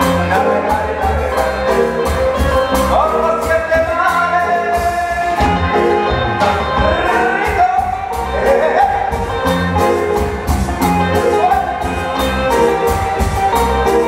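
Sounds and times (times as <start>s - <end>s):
percussion beat: 0.0s - 14.0s
person singing: 0.0s - 14.0s
tropical dance band playing: 0.0s - 14.0s.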